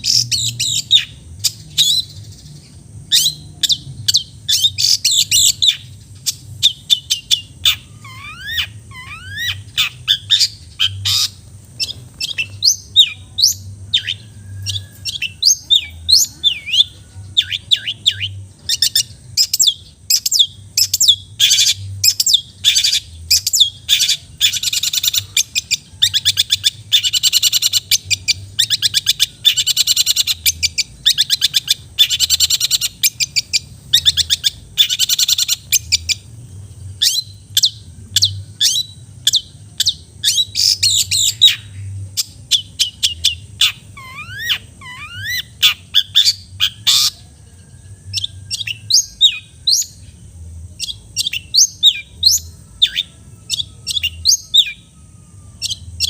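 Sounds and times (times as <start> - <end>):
shrike singing sharp chirps and trills: 0.0 - 56.0.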